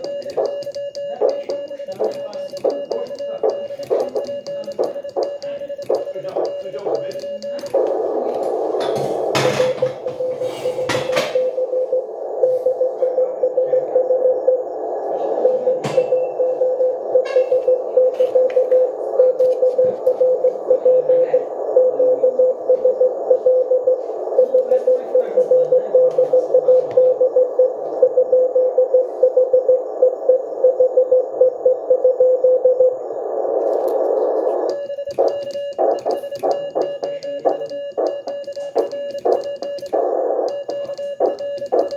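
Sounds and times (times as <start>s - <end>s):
radio band hiss: 0.0s - 31.9s, 32.5s - 41.9s
morse code tone: 0.0s - 33.0s, 33.6s - 41.9s
higher morse sidetone: 0.0s - 41.9s.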